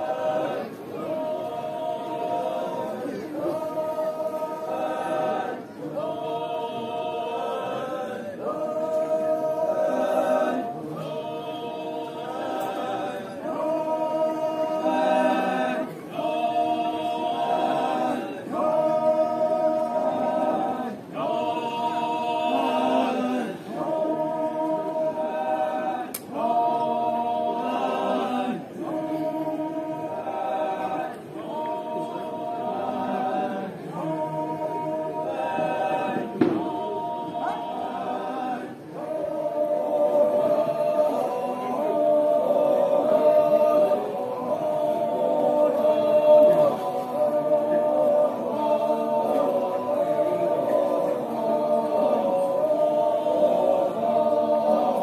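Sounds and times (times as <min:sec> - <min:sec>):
group of voices chanting: 0:00.0 - 0:55.0.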